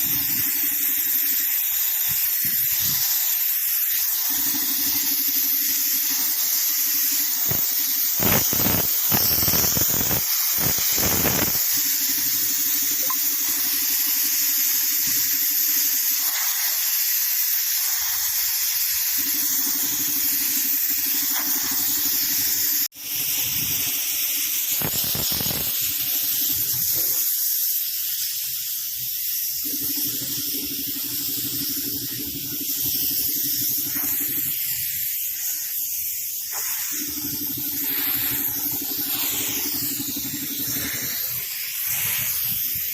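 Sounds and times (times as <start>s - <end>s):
compressed air hose hissing: 0.0s - 42.9s.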